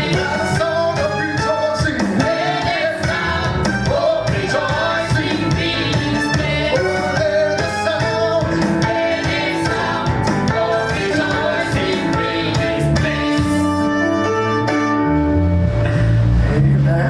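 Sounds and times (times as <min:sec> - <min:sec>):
gospel singing: 0:00.0 - 0:13.9
band with guitar and beat: 0:00.0 - 0:16.4.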